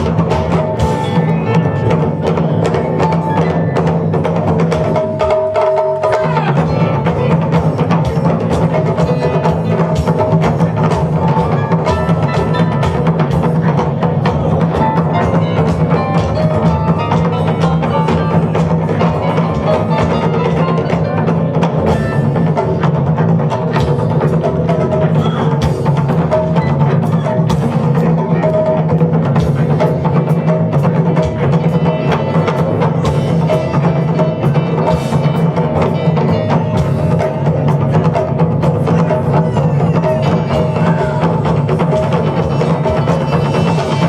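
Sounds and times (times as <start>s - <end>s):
drum kit playing funk groove: 0.0s - 44.0s
keyboard: 0.0s - 44.0s
taiko drums: 0.0s - 44.0s.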